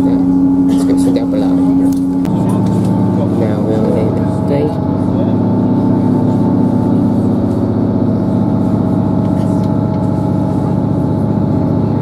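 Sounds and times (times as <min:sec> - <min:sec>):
train engine and rail noise: 0:00.0 - 0:12.0.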